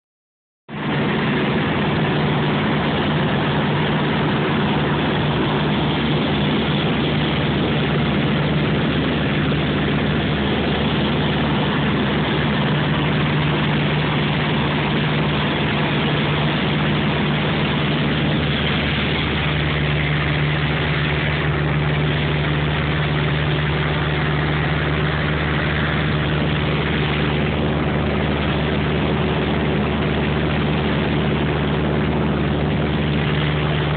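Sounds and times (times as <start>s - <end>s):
airliner engine drone in cabin: 0.7s - 33.9s.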